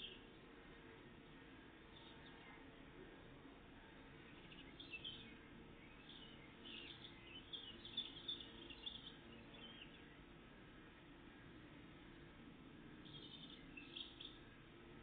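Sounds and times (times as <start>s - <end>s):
songbirds singing and chirping: 0.0s - 15.0s.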